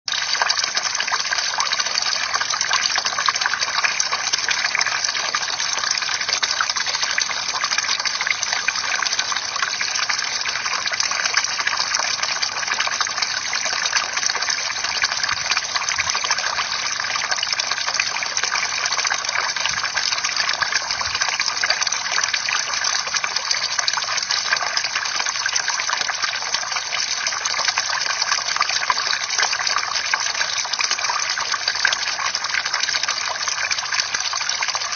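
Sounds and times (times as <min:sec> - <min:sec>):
water pouring and splashing: 0:00.1 - 0:34.9.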